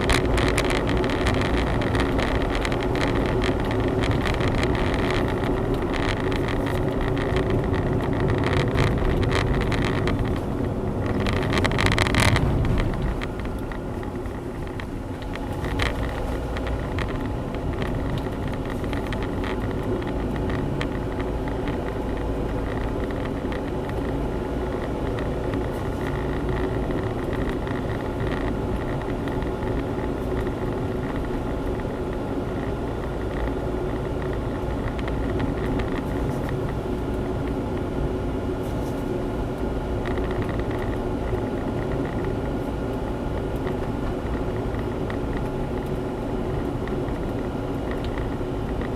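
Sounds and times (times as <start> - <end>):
car engine hum: 0.0 - 48.9
road rumble: 0.0 - 48.9.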